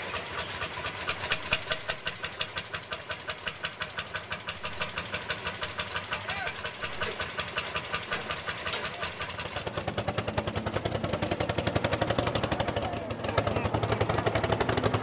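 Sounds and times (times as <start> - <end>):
tractor engine popping exhaust: 0.0 - 15.0.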